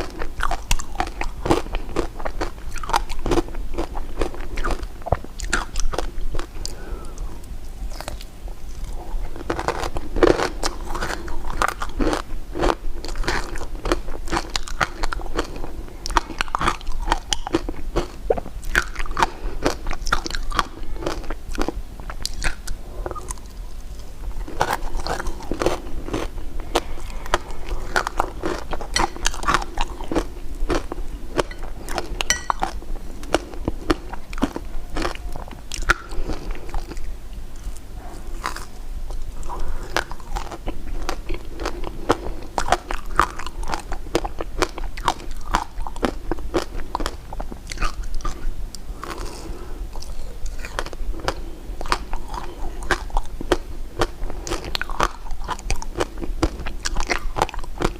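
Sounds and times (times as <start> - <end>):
person chewing crunchy candy: 0.0 - 57.9.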